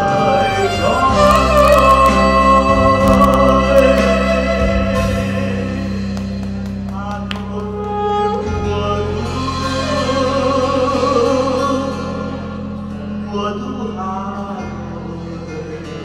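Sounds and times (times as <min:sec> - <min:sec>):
man singing into microphone: 0:00.0 - 0:06.2, 0:06.9 - 0:16.0
acoustic guitar: 0:00.0 - 0:16.0.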